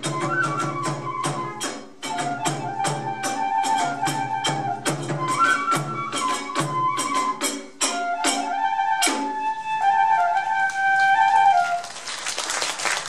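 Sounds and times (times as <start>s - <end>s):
bamboo flute long notes: 0.0s - 12.1s.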